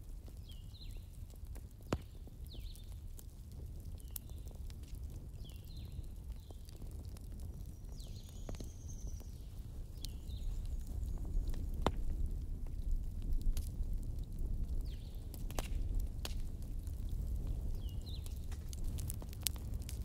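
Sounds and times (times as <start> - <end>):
fire crackling pops: 0.0 - 20.0
wood fire rumbling: 0.0 - 20.0.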